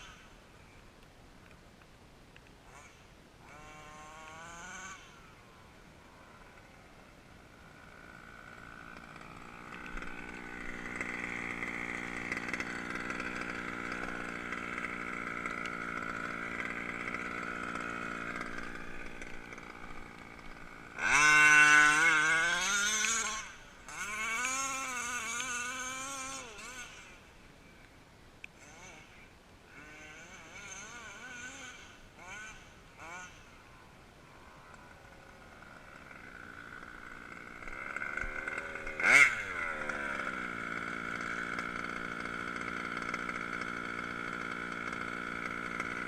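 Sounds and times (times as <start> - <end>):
two-stroke engine revving: 2.6 - 27.8, 28.5 - 33.6, 34.4 - 46.0.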